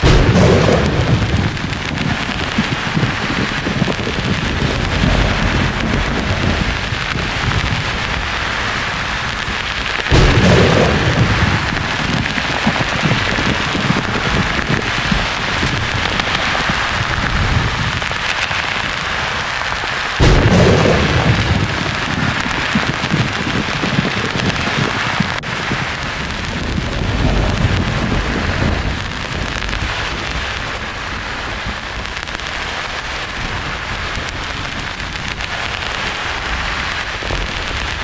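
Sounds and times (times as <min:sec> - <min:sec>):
thunder claps rumbling: 0:00.0 - 0:38.0.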